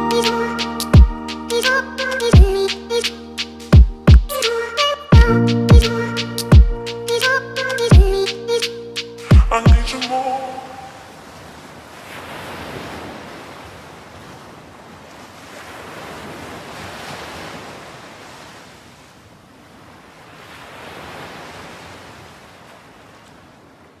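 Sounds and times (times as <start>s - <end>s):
ocean waves washing in: 4.4s - 24.0s.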